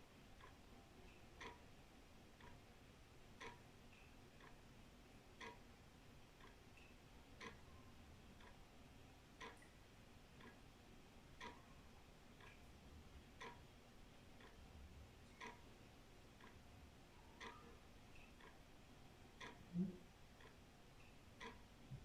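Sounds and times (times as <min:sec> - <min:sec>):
wall clock ticking: 0:00.0 - 0:22.0.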